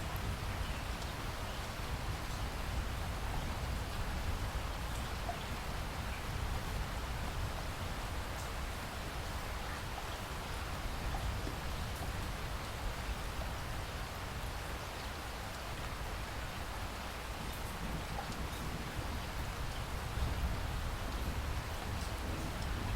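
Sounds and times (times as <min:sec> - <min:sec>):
raindrops pattering: 0:00.0 - 0:22.9
steady rain falling: 0:00.0 - 0:22.9.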